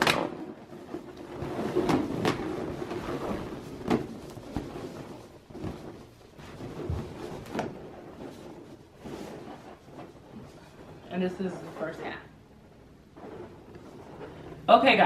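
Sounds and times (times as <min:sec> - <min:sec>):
short sharp strokes on balloons: 0:00.3 - 0:15.0
balloons rubbing and squeaking: 0:00.4 - 0:15.0.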